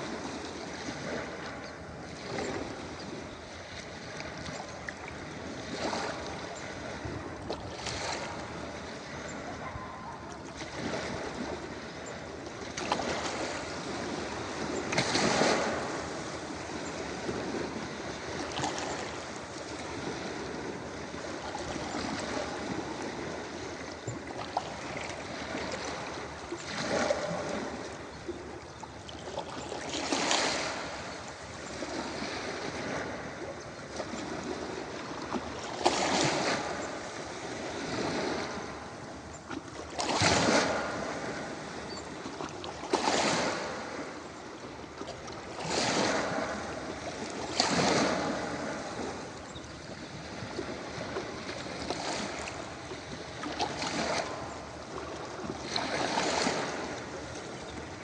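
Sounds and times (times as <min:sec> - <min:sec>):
surf washing on beach: 0:00.0 - 0:28.8, 0:29.4 - 0:58.0.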